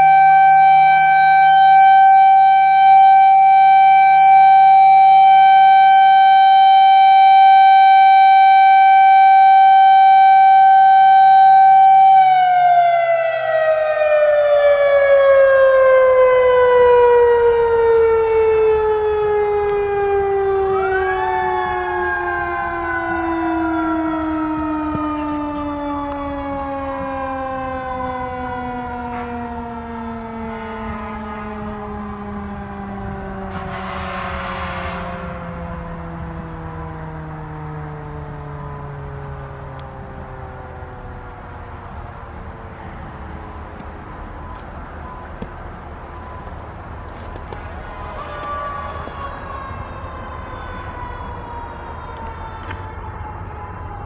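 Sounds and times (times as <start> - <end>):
siren winding down: 0.0 - 54.0.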